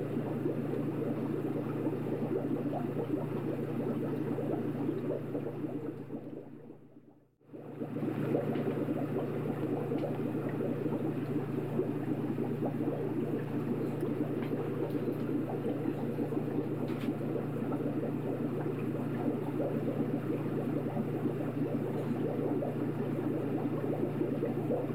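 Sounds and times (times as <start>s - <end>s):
muffled underwater bubbling rush: 0.0s - 24.9s.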